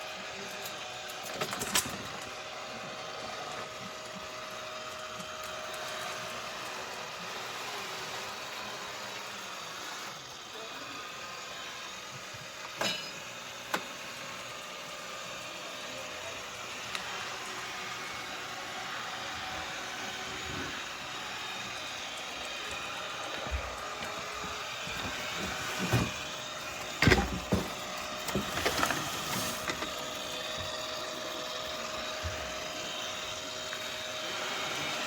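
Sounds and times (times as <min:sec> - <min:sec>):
robot vacuum suction fan hum: 0:00.0 - 0:35.0.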